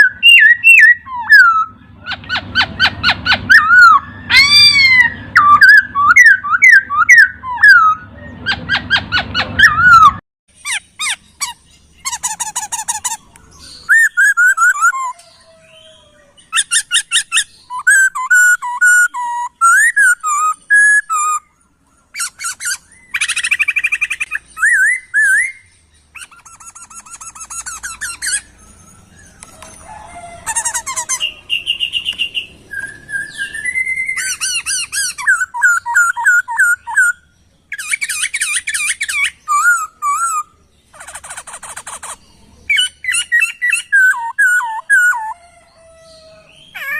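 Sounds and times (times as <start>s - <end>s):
bird singing whistled song: 0.0s - 29.8s, 30.5s - 46.9s.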